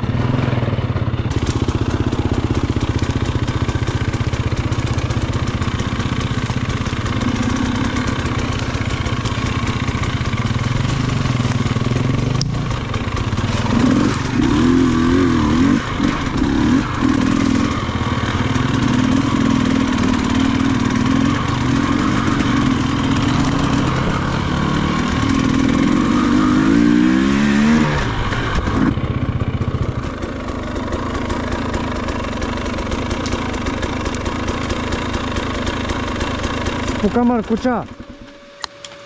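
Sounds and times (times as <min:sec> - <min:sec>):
motorcycle engine revving and idling: 0:00.0 - 0:39.0.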